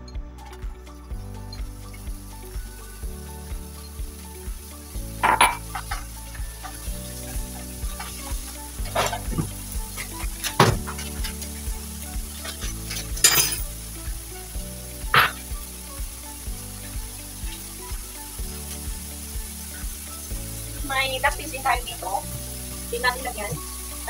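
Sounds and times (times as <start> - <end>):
oil crackling and spitting: 0.4 - 24.0
vegetables frying in oil: 0.4 - 24.0.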